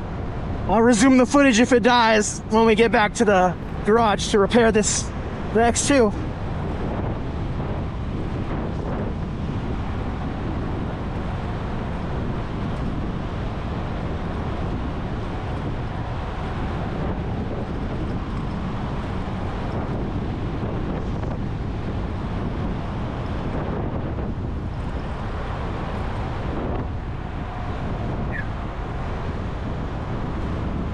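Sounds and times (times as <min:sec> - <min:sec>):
road and tyre rumble: 0:00.0 - 0:30.9
wind rushing over microphone: 0:00.0 - 0:30.9.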